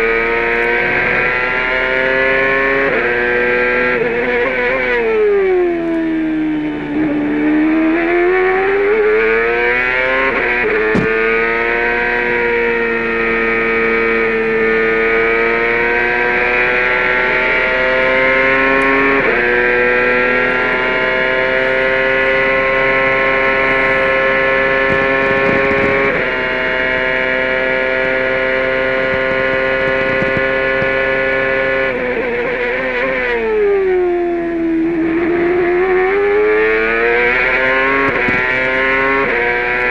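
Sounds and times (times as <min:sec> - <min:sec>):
car braking and downshifting: 0:00.0 - 0:39.9
quick gear upshifts: 0:00.0 - 0:39.9
race car engine at full throttle: 0:00.0 - 0:39.9.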